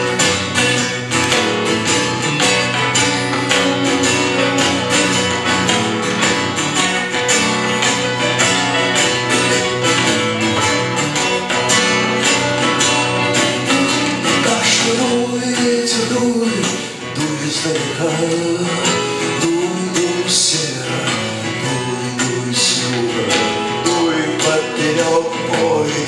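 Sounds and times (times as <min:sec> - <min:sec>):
live band playing: 0:00.0 - 0:26.0
strummed acoustic guitar: 0:00.0 - 0:26.0.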